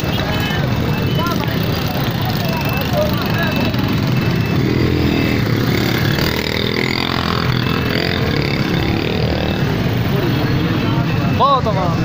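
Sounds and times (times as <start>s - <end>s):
crowd voices: 0.0s - 12.0s
small motorcycle engines running: 0.0s - 12.0s.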